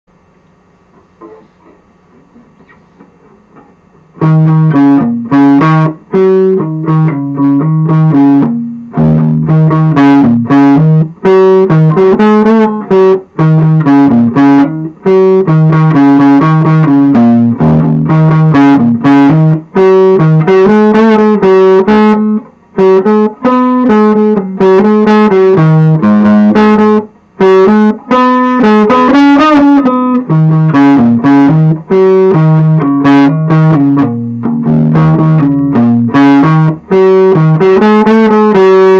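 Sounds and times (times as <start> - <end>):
overdriven electric guitar melody: 0.9 - 38.9.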